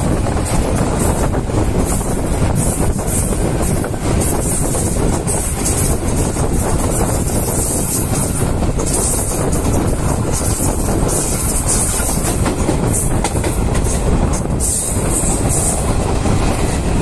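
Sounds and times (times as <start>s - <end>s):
train wheels rumbling on rails: 0.0s - 17.0s
wind rushing past microphone: 0.0s - 17.0s.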